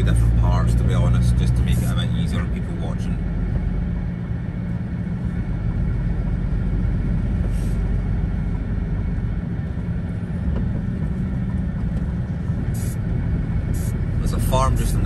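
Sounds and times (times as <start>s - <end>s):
vehicle engine and tyre drone: 0.0s - 15.0s.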